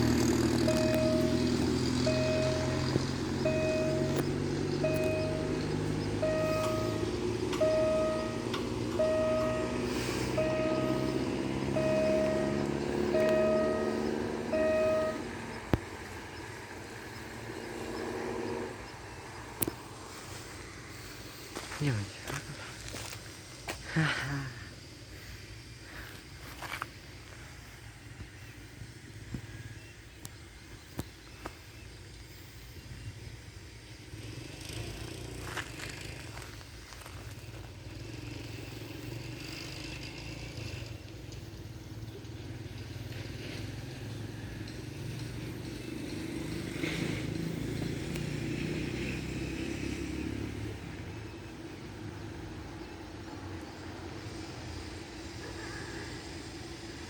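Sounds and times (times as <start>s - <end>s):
diesel train engine rumbling: 0.0s - 57.0s.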